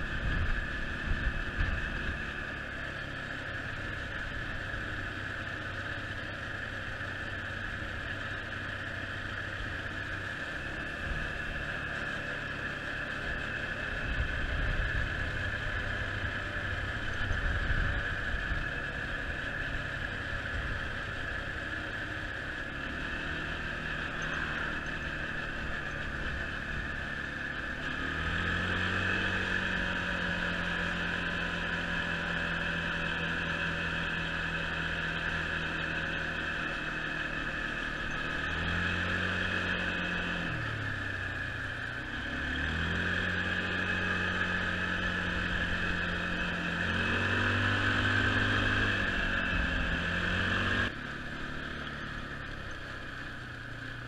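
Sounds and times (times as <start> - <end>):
quad bike engine: 0.0 - 54.0.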